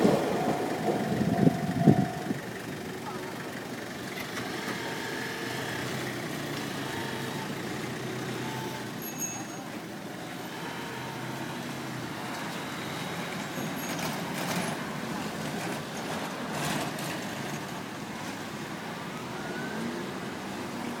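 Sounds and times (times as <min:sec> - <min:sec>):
vehicle engines rumbling: 0:00.0 - 0:21.0
vehicles passing: 0:00.0 - 0:21.0.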